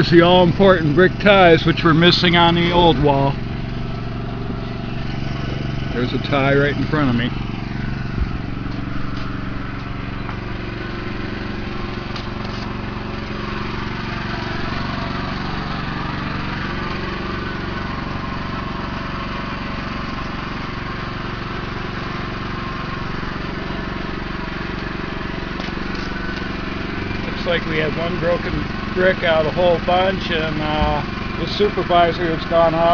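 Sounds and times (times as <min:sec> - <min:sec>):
small engine running: 0:00.0 - 0:32.9.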